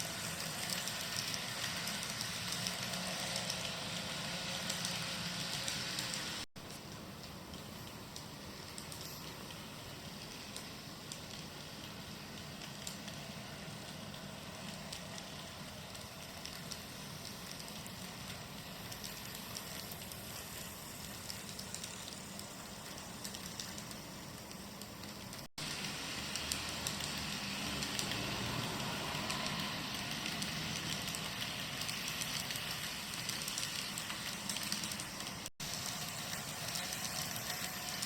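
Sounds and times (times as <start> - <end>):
model train motor hum: 0.0 - 6.9, 7.5 - 38.0
wheels clicking on rail joints: 0.0 - 38.0.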